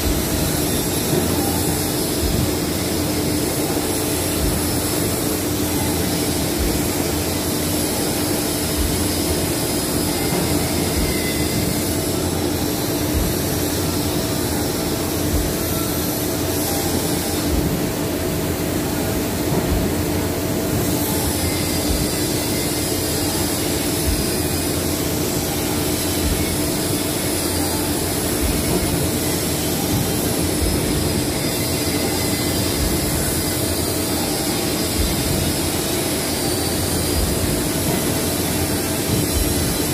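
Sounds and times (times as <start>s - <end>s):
high wavering whine: 0.0s - 39.9s
machinery humming: 0.0s - 39.9s.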